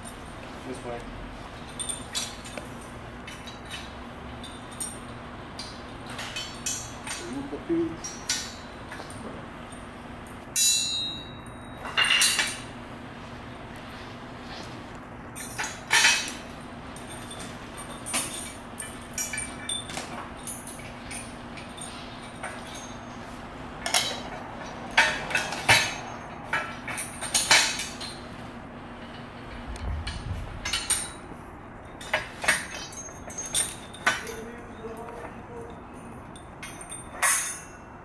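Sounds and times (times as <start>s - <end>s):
steady low hum: 0.0s - 38.0s
metal frame parts clanking: 1.6s - 12.8s, 15.3s - 38.0s.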